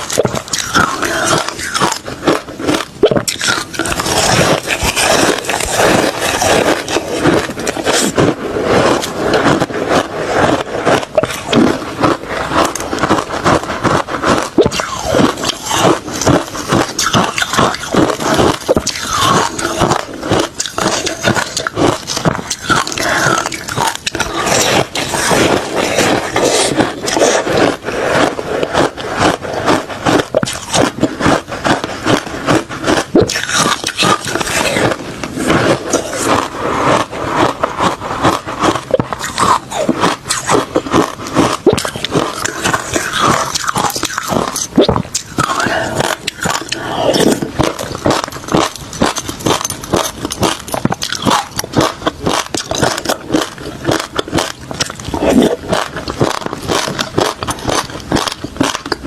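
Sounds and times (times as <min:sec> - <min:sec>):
person chewing crushed ice: 0:00.0 - 0:59.0.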